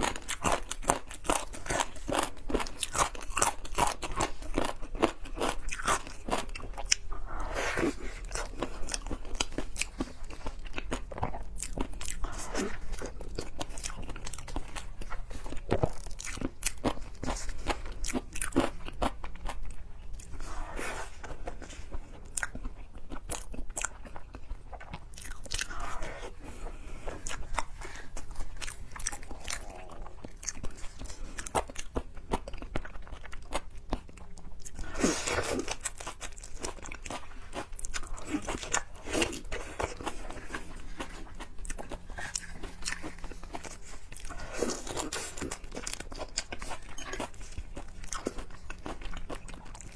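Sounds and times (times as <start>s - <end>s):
chewing crunches: 0.0s - 49.9s.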